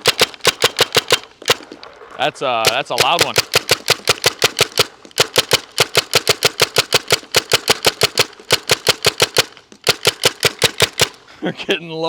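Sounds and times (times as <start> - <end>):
paintball marker firing: 0.0 - 1.9, 2.6 - 11.3.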